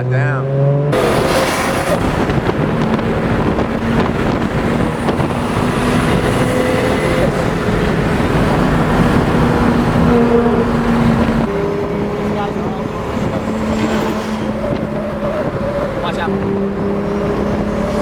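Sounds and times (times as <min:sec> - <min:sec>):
wind and road noise: 0:00.0 - 0:18.0
car engine running: 0:00.9 - 0:18.0.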